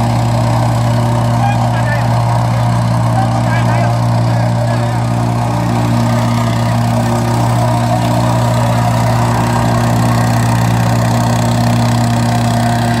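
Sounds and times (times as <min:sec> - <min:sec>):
compactor engine hum: 0:00.0 - 0:13.0.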